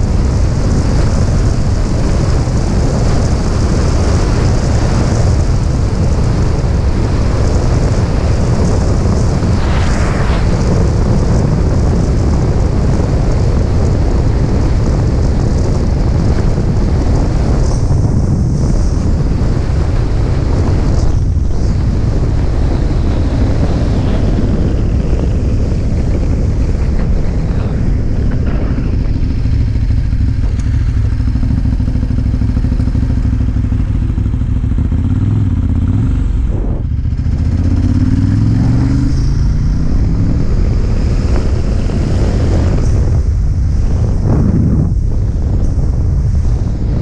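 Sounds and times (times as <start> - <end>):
motorcycle engine accelerating: 0.0 - 47.0
wind rumble on microphone: 0.0 - 47.0.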